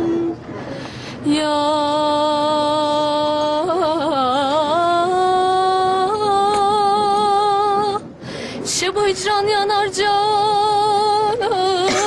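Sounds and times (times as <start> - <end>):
woman singing unaccompanied: 1.2 - 8.0, 8.6 - 12.0.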